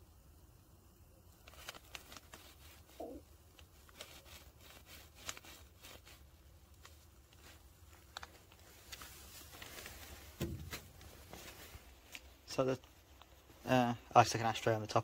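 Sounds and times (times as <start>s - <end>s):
plastic bag crinkling: 1.4s - 13.5s.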